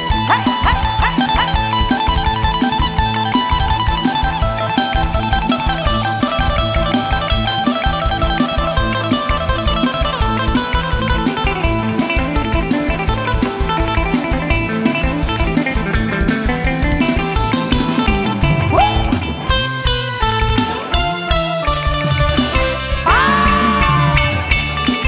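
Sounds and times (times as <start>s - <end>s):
driving bass: 0.0s - 25.0s
drum-kit beat: 0.0s - 25.0s
electric guitar lines: 0.0s - 25.0s.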